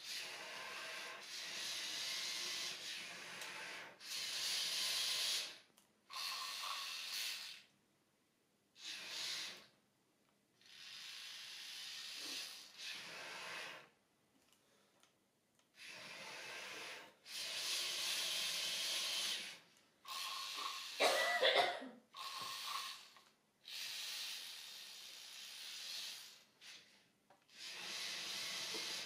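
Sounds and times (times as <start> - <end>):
toy robot motors and gears: 0.0 - 7.7, 8.8 - 9.8, 10.6 - 14.0, 15.6 - 21.1, 22.2 - 29.0.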